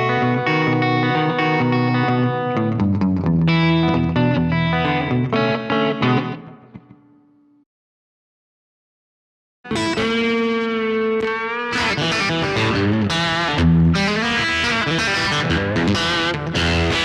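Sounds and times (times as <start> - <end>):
electric guitar playing: 0.0 - 7.6, 9.7 - 17.0.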